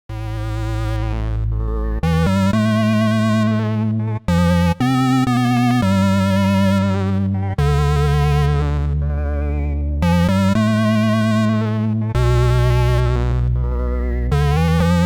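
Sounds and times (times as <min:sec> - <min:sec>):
synthesizer chords with vibrato: 0:00.1 - 0:15.0.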